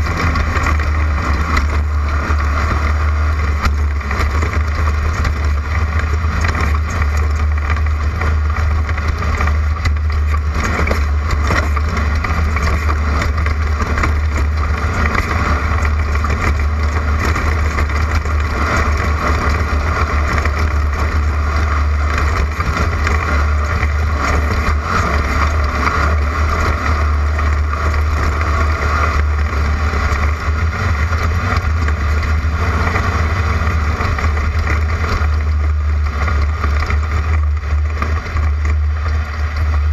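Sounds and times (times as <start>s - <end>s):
car engine running at speed: 0.0s - 39.9s
wind and road noise: 0.0s - 39.9s.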